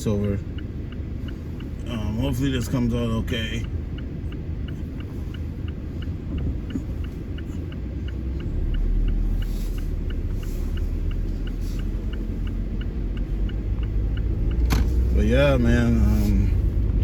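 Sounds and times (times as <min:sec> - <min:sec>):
car engine and tyre rumble: 0:00.0 - 0:17.0
light even ticking: 0:00.0 - 0:17.0.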